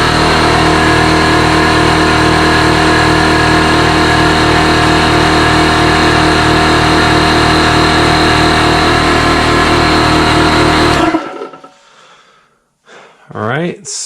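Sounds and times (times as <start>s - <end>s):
air compressor running: 0.0s - 11.8s.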